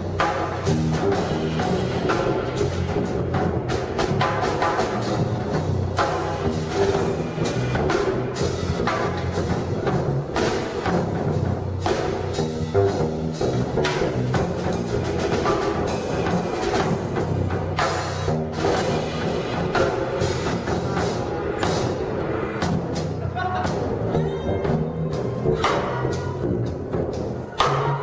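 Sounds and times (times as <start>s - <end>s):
drum kit strokes: 0.0s - 28.0s
live band playing: 0.0s - 28.0s.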